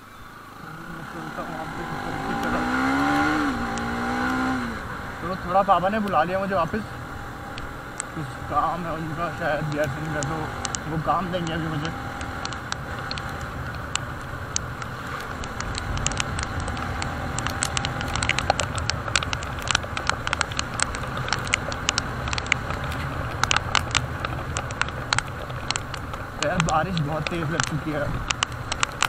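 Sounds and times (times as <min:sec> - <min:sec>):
wind and road noise: 0:00.0 - 0:29.0
raindrops pattering on microphone: 0:00.3 - 0:29.0
motorcycle engine running: 0:00.6 - 0:29.0.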